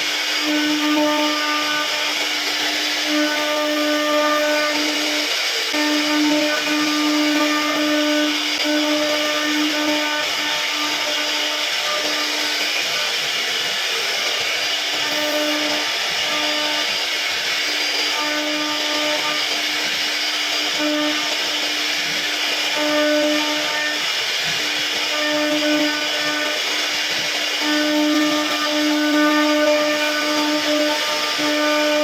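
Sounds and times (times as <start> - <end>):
router cutting wood hiss: 0.0 - 32.0
spindle hum: 0.0 - 32.0.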